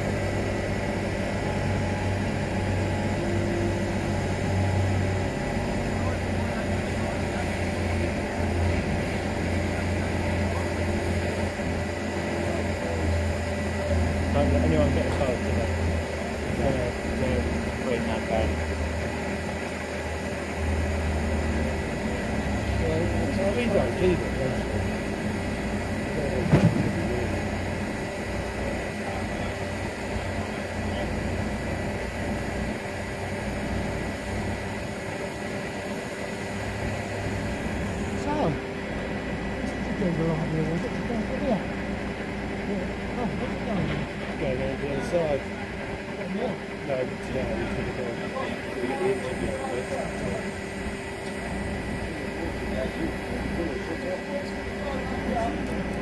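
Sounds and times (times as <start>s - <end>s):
crane engine humming: 0.0s - 56.0s.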